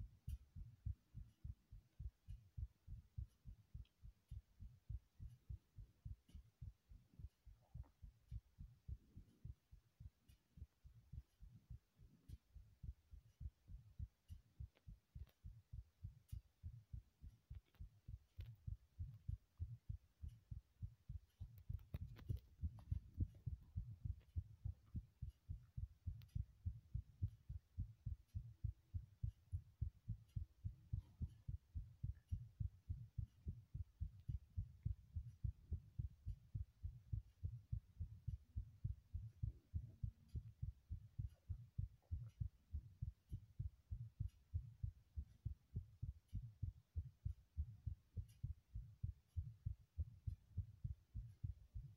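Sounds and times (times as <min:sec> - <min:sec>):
heartbeat thuds: 0:00.0 - 0:51.9.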